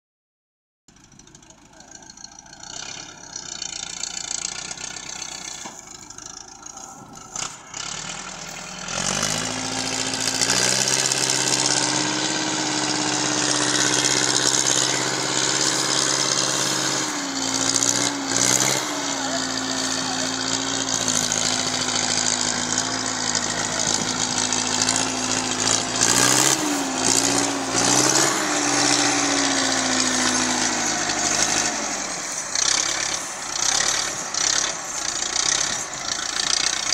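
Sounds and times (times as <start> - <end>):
diesel tractor engine pulling: 0.9 - 36.9.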